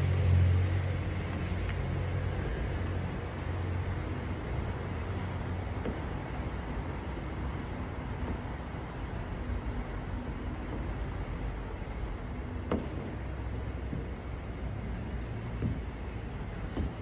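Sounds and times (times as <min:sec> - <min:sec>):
low urban rumble: 0:00.0 - 0:17.0.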